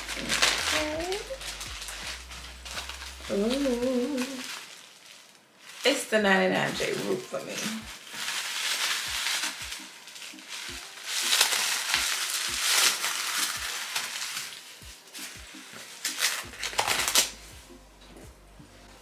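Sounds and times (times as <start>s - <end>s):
plastic and paper packaging crinkling: 0.0s - 17.6s.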